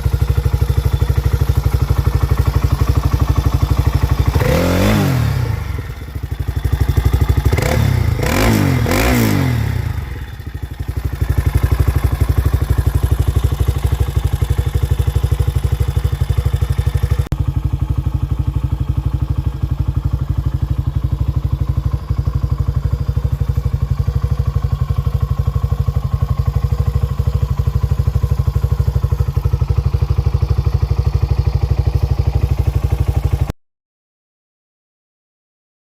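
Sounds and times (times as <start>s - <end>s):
atv engine revving and idling: 0.0s - 33.6s.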